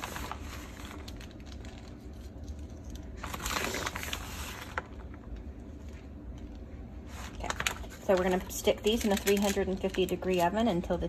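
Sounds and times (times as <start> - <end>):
plastic bag crinkling: 0.0 - 5.4, 7.1 - 10.7.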